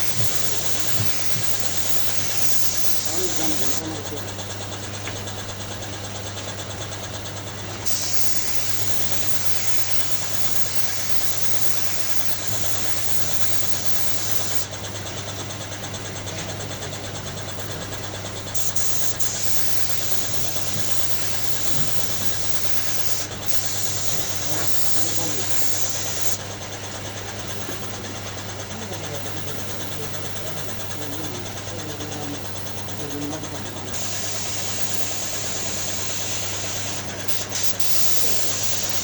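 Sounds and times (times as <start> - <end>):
machine motor running: 0.0 - 39.0.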